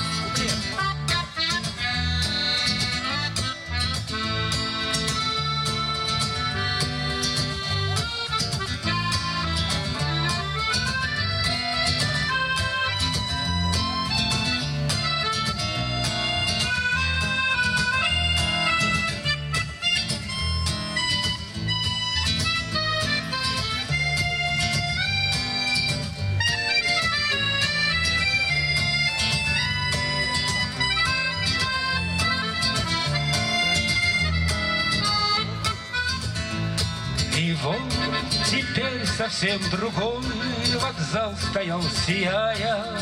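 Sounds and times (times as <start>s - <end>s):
accordion playing slow melody: 0.0s - 43.0s.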